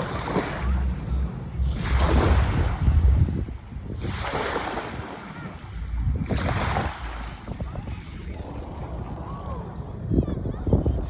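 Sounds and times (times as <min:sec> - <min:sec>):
waves washing on beach: 0:00.0 - 0:09.6
wind buffeting microphone: 0:00.0 - 0:11.0.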